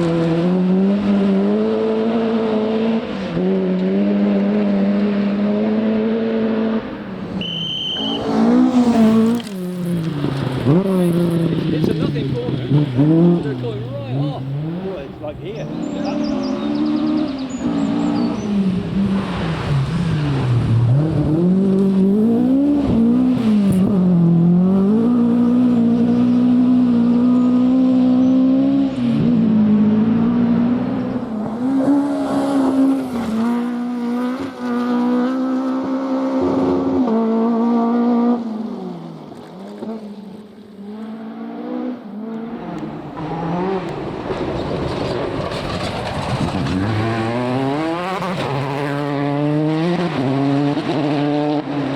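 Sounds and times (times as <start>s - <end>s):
approaching car engine: 0.0s - 51.9s
rally car engine revving: 0.0s - 51.9s.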